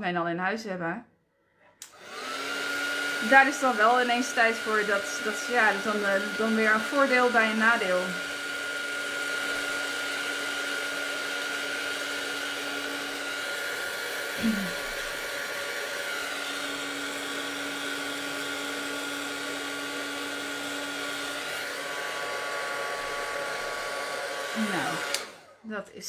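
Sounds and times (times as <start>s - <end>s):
heat gun fan blowing: 1.8s - 25.6s.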